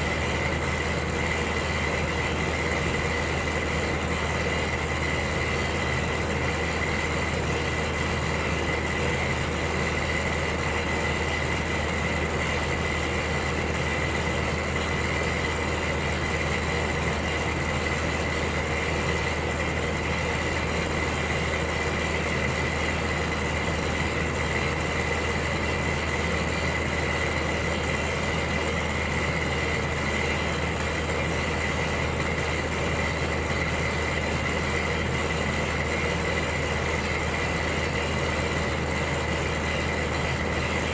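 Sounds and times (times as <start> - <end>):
electric heater fan rush: 0.0 - 40.9.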